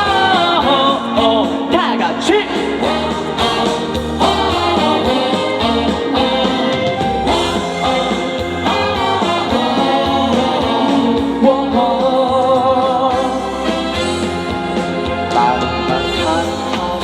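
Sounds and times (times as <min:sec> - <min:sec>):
live band with singing: 0:00.0 - 0:17.0.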